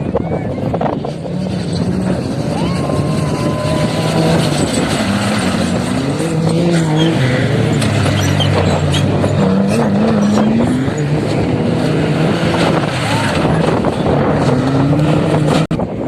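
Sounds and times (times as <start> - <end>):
motorcycle engine revving: 0.8 - 16.0.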